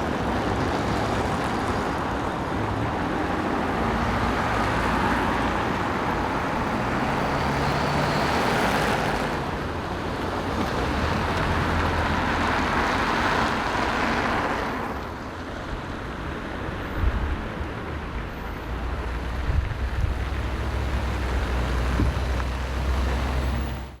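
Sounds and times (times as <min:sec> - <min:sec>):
low traffic rumble: 0:00.0 - 0:24.0
vehicles passing: 0:00.0 - 0:24.0.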